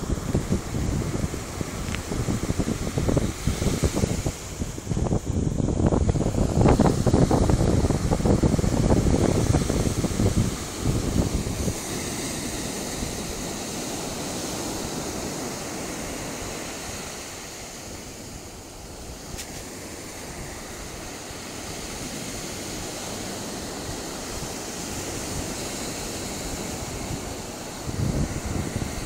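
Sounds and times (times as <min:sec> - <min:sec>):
ocean surf: 0:00.0 - 0:29.0
wind: 0:00.0 - 0:29.0.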